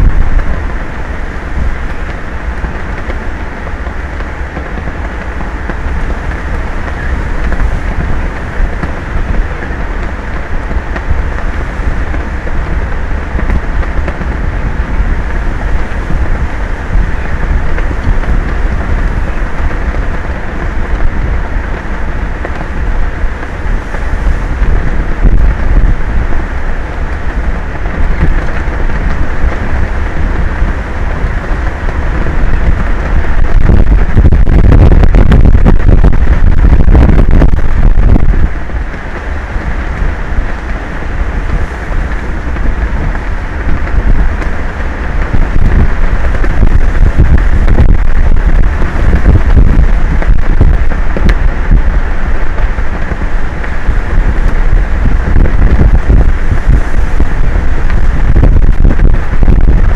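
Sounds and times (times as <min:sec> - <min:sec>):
wind buffeting a microphone: 0:00.0 - 0:59.9.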